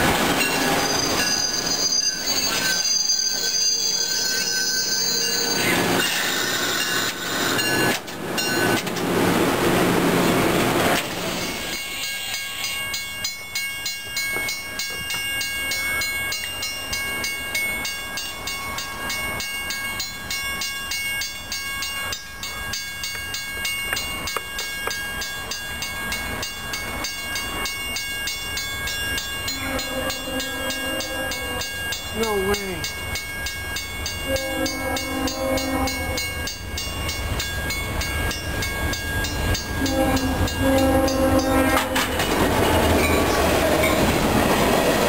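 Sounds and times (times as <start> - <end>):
crossing warning bells ringing: 0.0 - 45.0
faint rumble of rail traffic: 0.0 - 45.0.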